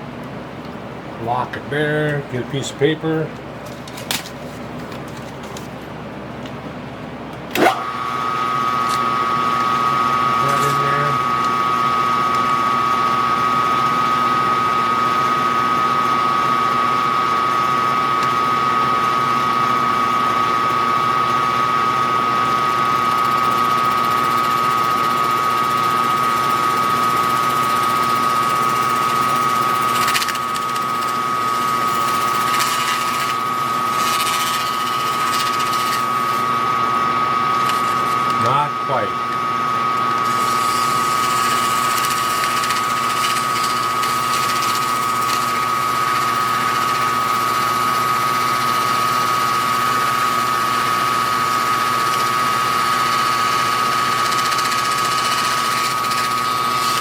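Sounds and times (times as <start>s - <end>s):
metal lathe motor whine: 7.5s - 57.0s.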